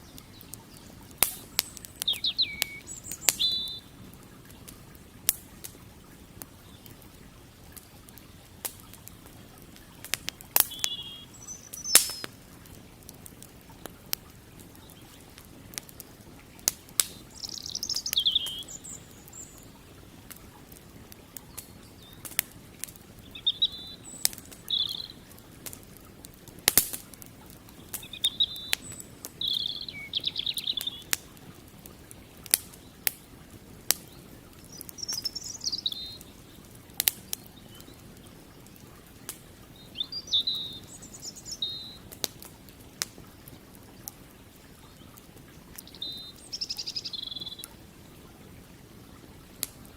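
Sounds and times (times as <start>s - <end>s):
campfire crackling: 0.0s - 49.9s
small birds chirping: 0.0s - 49.9s.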